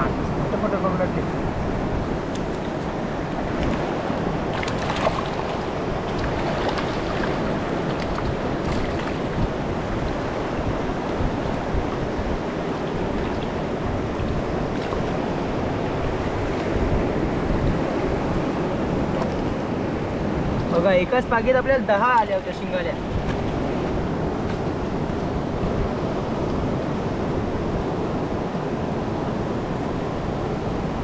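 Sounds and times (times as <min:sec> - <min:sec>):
surf washing over rocks: 0:00.0 - 0:31.0.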